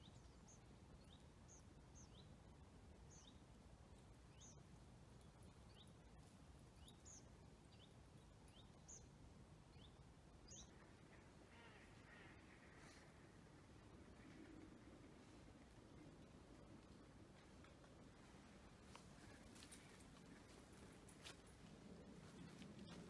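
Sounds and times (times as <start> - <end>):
quiet outdoor hiss: 0.0 - 23.0
small songbirds chirping: 0.0 - 23.0.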